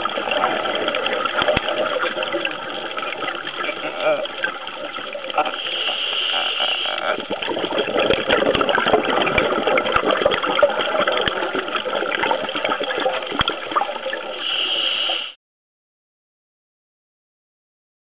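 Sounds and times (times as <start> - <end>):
crackly underwater water noise: 0.0 - 15.4.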